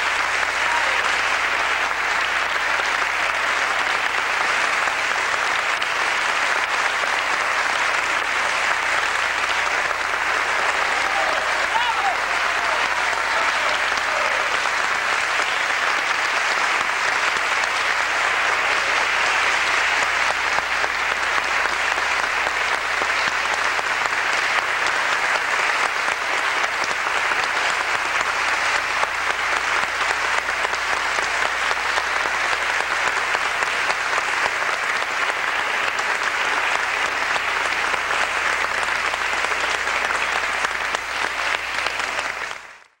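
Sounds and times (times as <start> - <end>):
audience applauding: 0.0 - 43.0.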